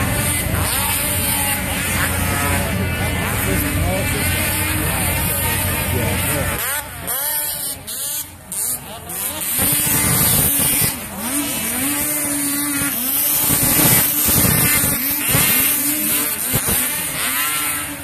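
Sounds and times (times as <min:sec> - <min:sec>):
snowmobiles revving past: 0:00.0 - 0:18.0.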